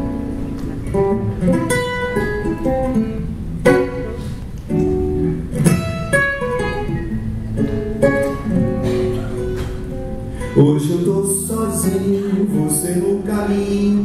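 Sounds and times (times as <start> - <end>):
acoustic guitar picking: 0.0 - 14.0
strummed guitar chords: 0.0 - 14.0.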